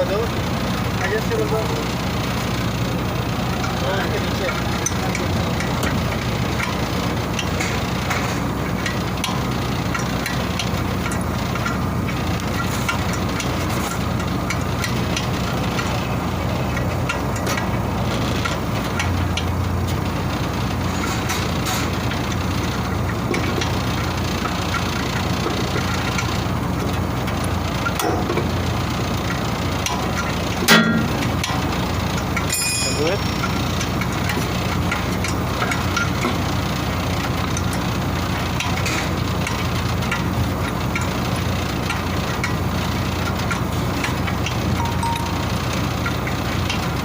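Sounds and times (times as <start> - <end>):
machinery droning: 0.0 - 47.0.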